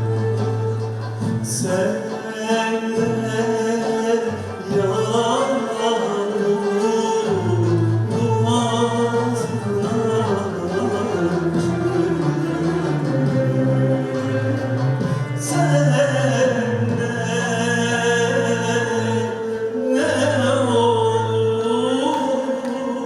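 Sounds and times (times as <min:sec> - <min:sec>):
instrumental accompaniment: 0:00.0 - 0:23.0.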